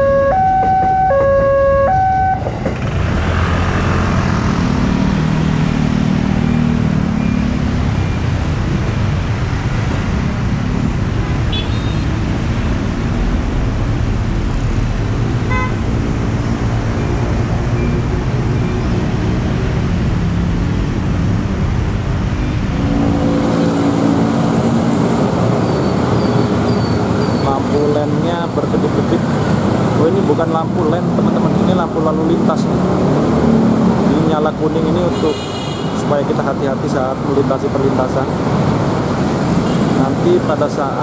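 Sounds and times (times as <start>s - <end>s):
motorcycles and cars passing: 0.0s - 41.0s.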